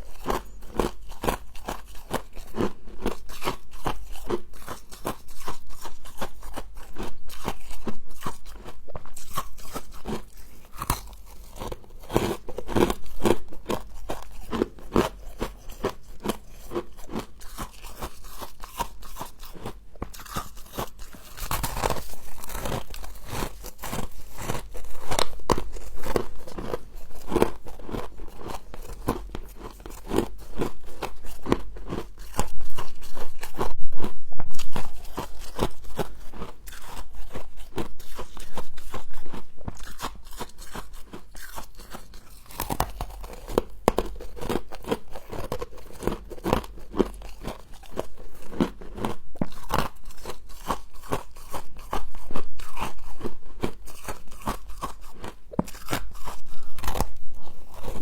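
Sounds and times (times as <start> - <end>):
chewing crunchy frost: 0.0 - 58.0.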